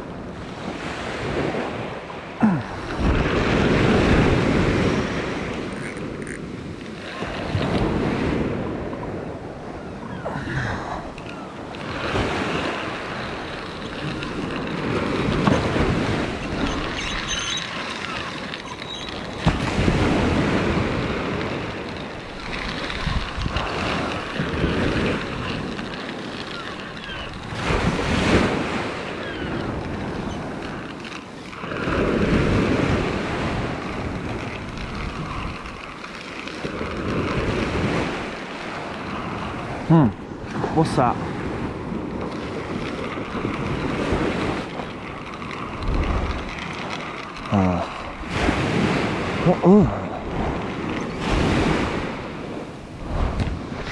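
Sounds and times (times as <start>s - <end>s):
wind buffeting microphone: 0.0s - 53.9s
waves breaking on shingle: 10.6s - 53.9s.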